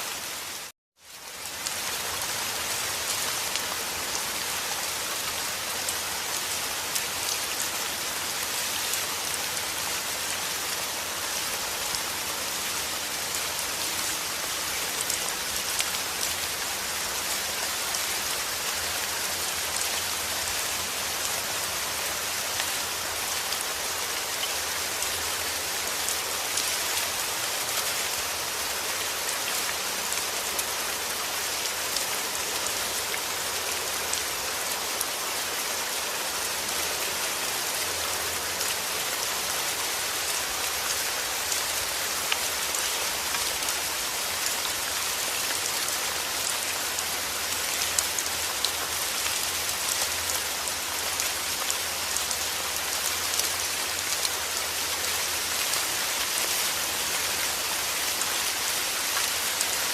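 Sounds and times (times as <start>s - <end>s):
rain on a hard surface: 0.0s - 59.9s.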